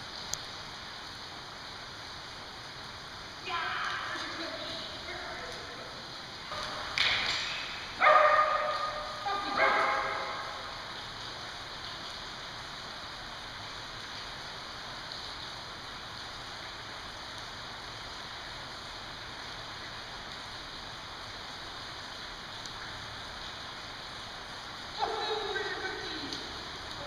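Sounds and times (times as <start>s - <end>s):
rain hissing: 0.0s - 27.0s.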